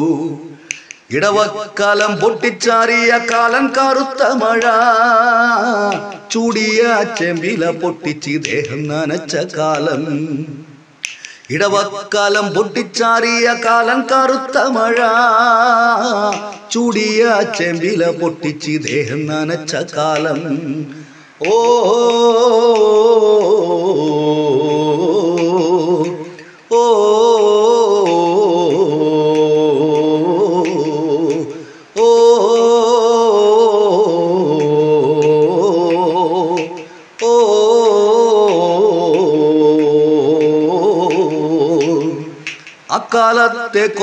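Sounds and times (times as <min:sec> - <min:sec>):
man singing wordless vocalise: 0:00.0 - 0:44.0.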